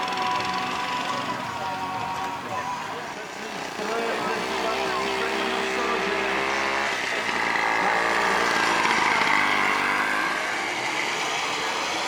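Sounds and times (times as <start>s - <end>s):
small tractor engine running hard: 0.0s - 12.0s.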